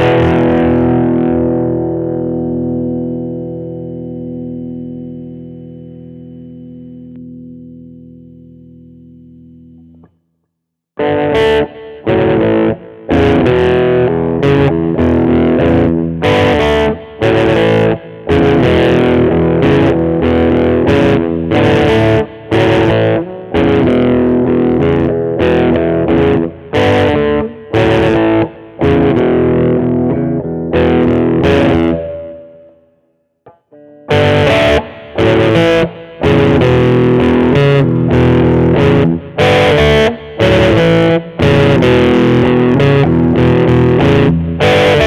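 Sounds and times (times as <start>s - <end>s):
distorted electric guitar: 0.0s - 10.1s, 11.0s - 45.0s.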